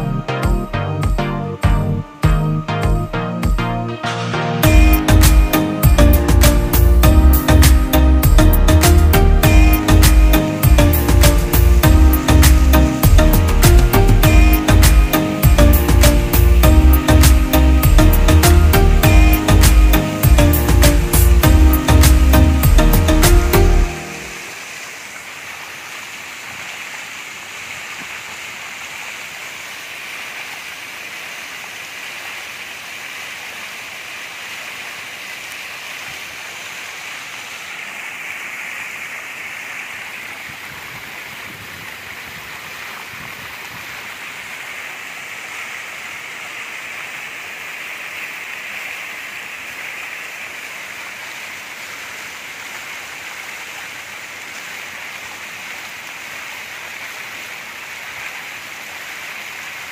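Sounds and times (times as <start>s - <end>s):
small waterfall rushing and splashing: 4.1s - 59.9s.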